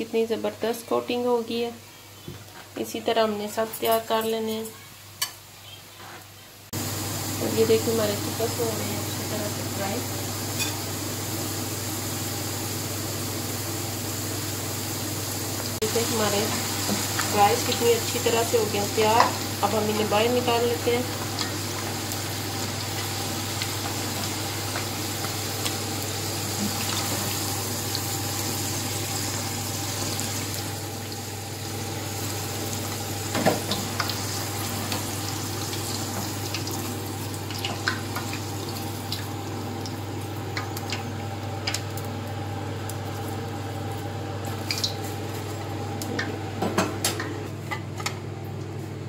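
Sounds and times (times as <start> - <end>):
fries sizzling in hot oil: 3.5 - 47.6.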